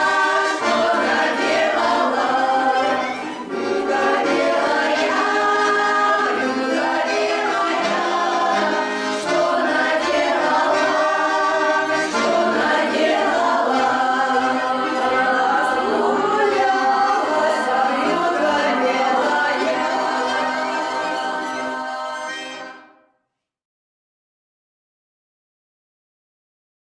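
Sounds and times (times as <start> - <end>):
folk choir singing: 0.0 - 22.9.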